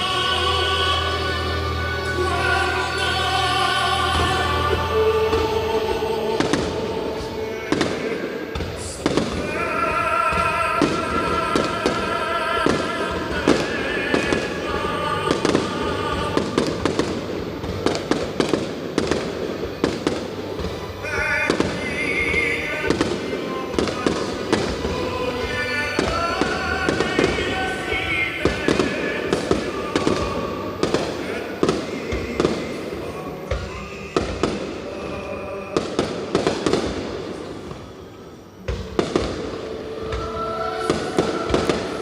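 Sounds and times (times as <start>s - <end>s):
fireworks bangs and crackles: 0.0s - 42.0s
music playing: 0.0s - 42.0s.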